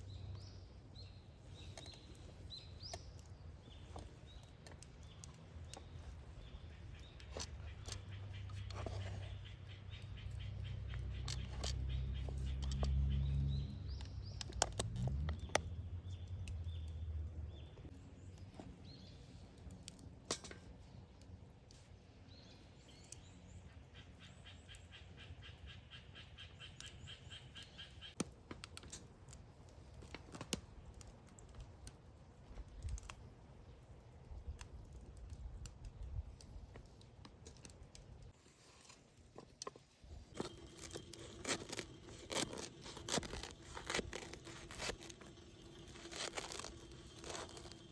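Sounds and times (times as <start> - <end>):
sharp clicks and crackles: 1.5 - 21.8, 28.1 - 47.9.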